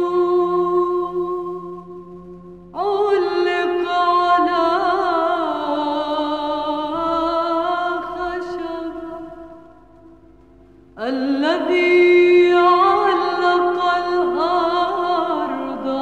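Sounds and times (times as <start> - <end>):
slow chant-like music: 0.0 - 16.0.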